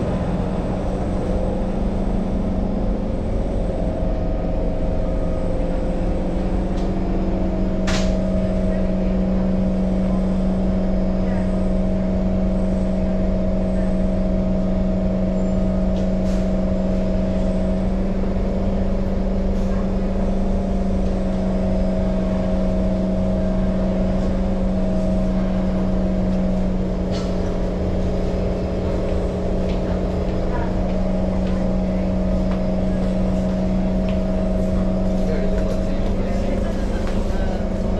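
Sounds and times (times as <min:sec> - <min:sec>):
train hum and rumble: 0:00.0 - 0:37.9.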